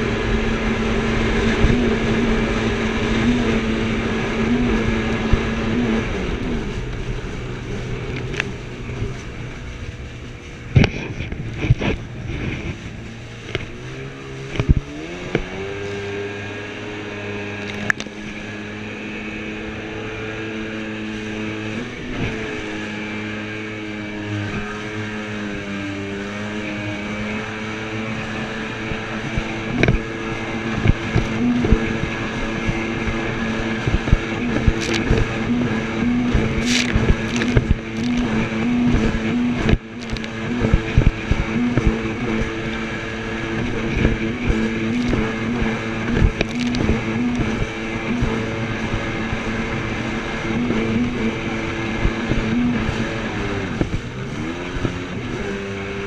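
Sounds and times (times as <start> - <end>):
jet ski engine running: 0.0 - 56.0.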